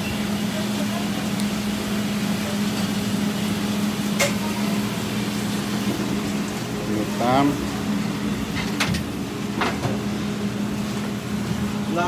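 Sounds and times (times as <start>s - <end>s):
kitchen equipment hum: 0.0s - 12.0s.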